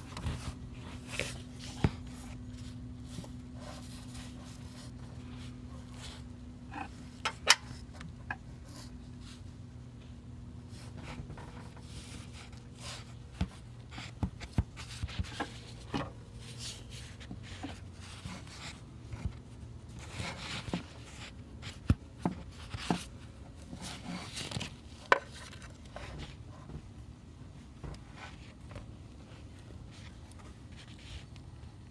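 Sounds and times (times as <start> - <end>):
rustling: 0.0 - 26.8, 27.8 - 31.8
faint low hum: 0.0 - 31.9.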